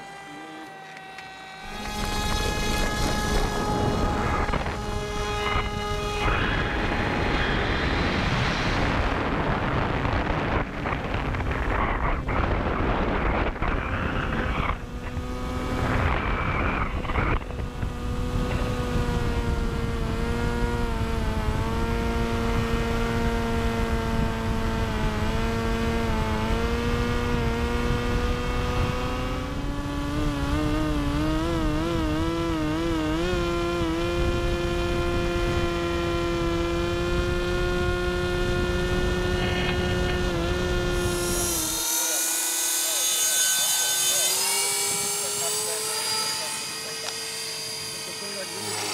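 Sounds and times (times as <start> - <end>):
model airplane motor droning: 0.0 - 48.9
wind rushing over microphone: 1.6 - 42.2.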